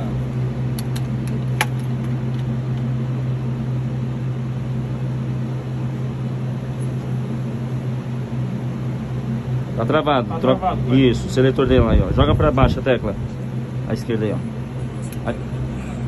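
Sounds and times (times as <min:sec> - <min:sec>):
low hum of machinery: 0:00.0 - 0:16.0.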